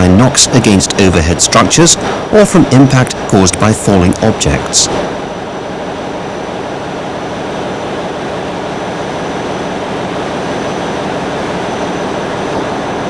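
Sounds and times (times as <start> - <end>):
engine room machinery running: 0.0 - 13.0
faint high whine: 0.0 - 13.0.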